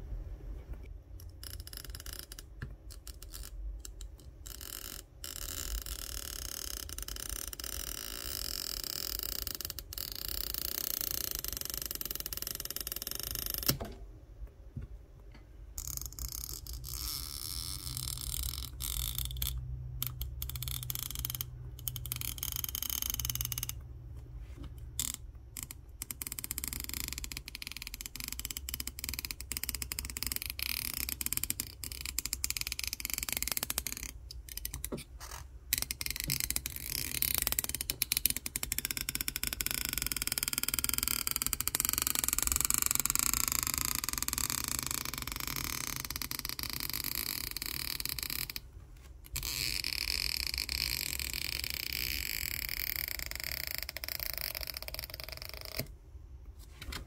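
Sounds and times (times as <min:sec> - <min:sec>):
adhesive strip creaking and squeaking: 0:01.2 - 0:13.8, 0:15.8 - 0:23.8, 0:24.8 - 0:55.9.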